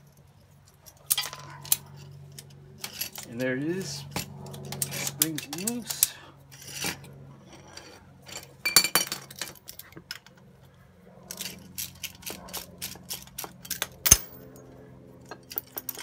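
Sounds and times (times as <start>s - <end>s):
metal tools clinking: 0.1s - 10.4s, 11.3s - 14.6s, 15.3s - 16.0s.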